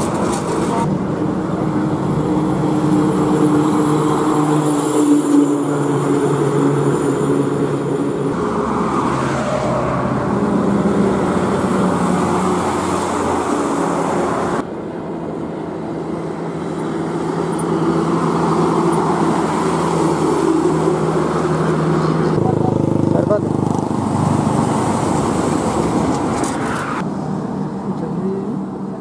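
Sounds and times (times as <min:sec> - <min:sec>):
diesel lorries passing: 0:00.0 - 0:29.0.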